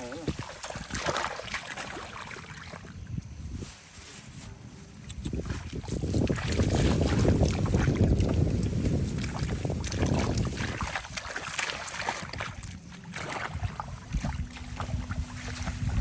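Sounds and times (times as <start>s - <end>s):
wind buffeting microphone: 0.0s - 3.8s, 4.5s - 16.0s
water splashing and sloshing: 0.0s - 16.0s.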